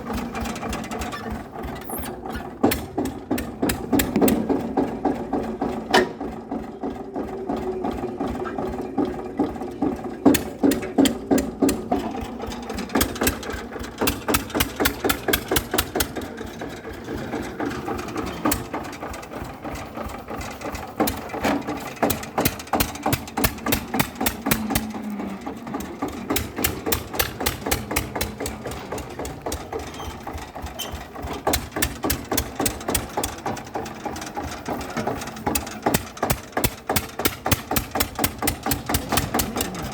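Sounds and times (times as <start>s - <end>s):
small engine knocking and humming: 0.0s - 39.9s.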